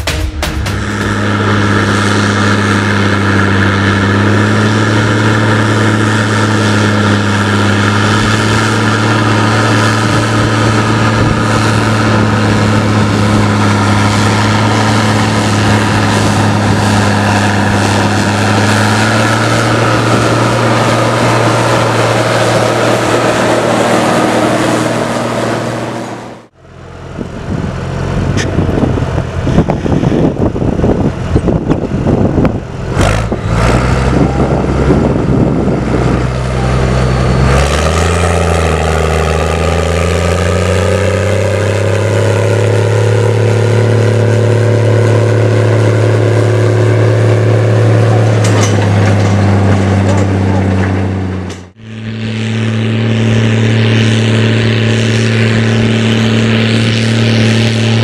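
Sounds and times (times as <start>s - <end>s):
tractor diesel engine running hard: 0.0s - 58.0s
exhaust crackle: 0.6s - 58.0s.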